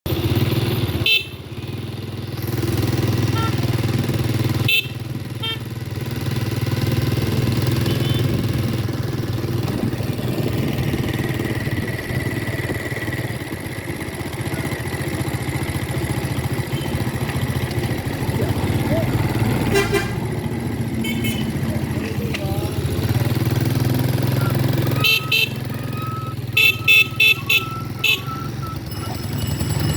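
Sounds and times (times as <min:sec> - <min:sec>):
motorcycle engine running: 0:00.1 - 0:29.9.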